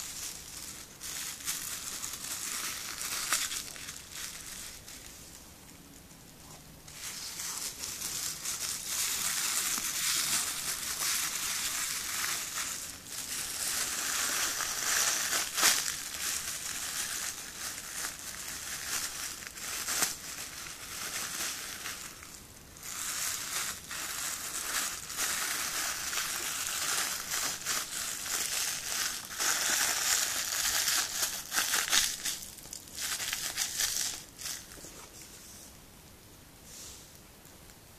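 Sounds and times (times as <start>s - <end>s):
plastic bag crinkling: 0.0s - 6.1s, 6.9s - 34.9s.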